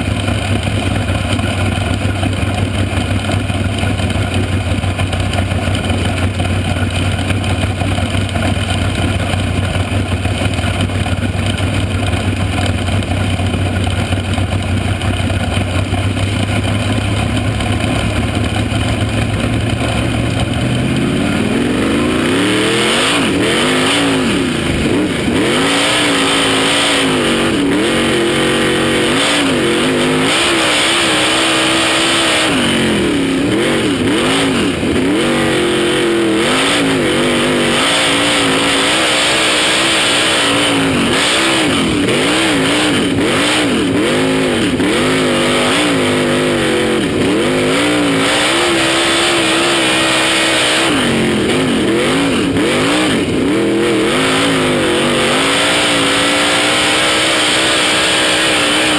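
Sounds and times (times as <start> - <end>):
race car engine at speed: 0.0 - 58.9.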